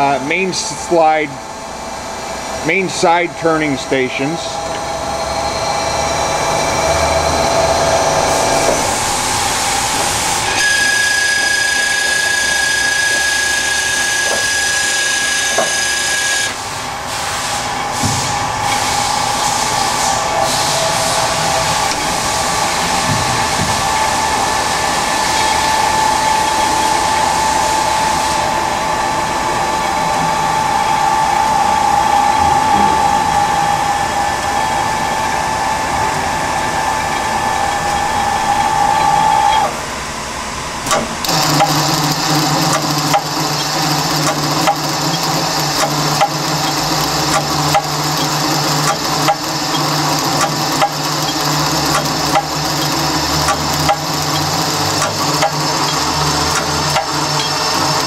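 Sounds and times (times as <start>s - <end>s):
machine low hum: 0.0s - 14.5s, 17.7s - 58.0s
lathe running with whine: 0.0s - 58.0s.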